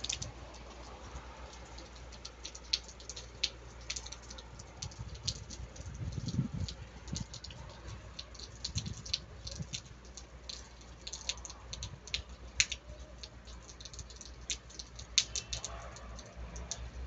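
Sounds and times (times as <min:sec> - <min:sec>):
low steady rumble: 0:00.0 - 0:15.2
raindrops tapping: 0:00.0 - 0:17.0.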